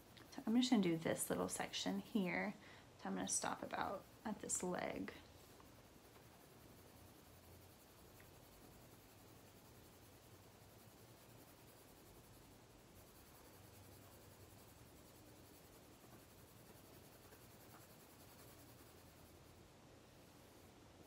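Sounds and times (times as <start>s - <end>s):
low room hum: 0.0s - 21.0s
colored pencil shading paper: 3.0s - 20.8s.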